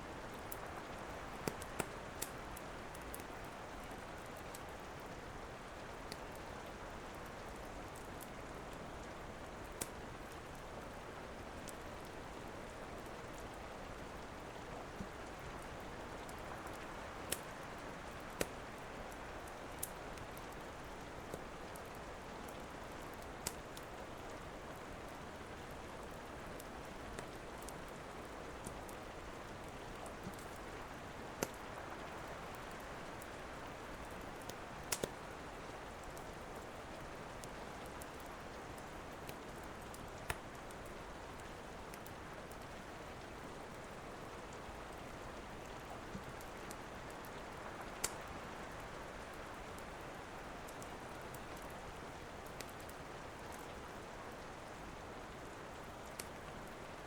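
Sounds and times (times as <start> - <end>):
steady rain: 0.0 - 57.0
wood fire crackling: 0.2 - 57.0.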